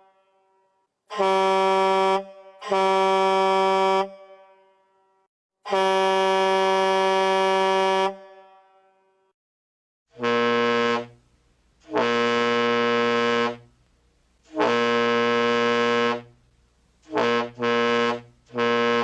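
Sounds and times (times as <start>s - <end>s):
truck air horn blasts: 0.0s - 9.3s, 10.1s - 11.2s, 11.8s - 13.8s, 14.4s - 16.4s, 17.0s - 19.0s.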